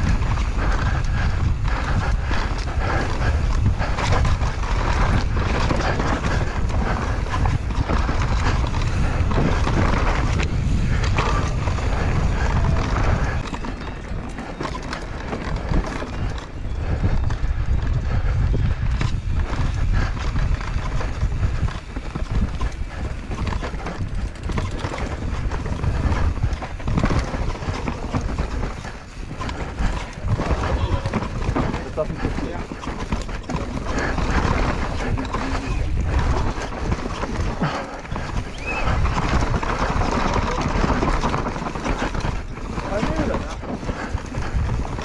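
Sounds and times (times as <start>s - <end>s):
bike chain and frame clatter: 0.0s - 45.0s
tyres on loose dirt: 0.0s - 45.0s
wind buffeting microphone: 0.0s - 45.0s.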